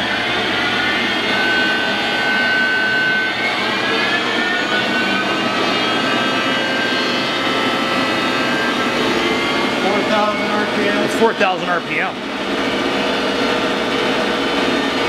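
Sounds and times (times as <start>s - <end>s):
lathe spindle whine rising: 0.0s - 15.0s.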